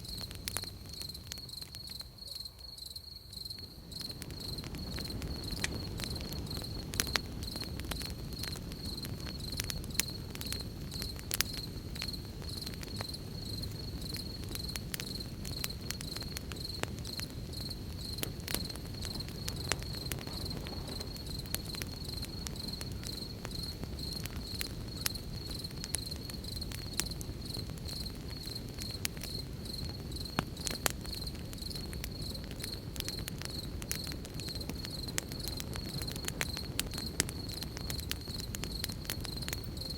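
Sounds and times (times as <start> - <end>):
campfire crackling and popping: 0.0 - 39.9
insects chirping: 0.0 - 39.9.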